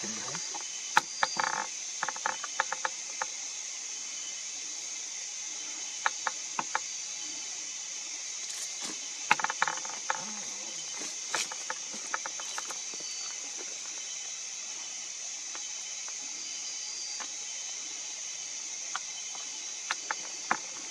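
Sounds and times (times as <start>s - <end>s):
night insects chorus: 0.0s - 20.9s.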